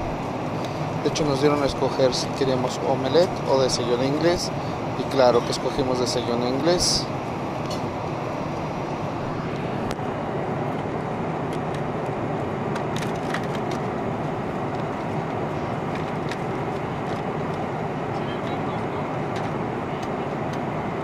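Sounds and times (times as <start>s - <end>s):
airplane cabin engine hiss: 0.0s - 21.0s.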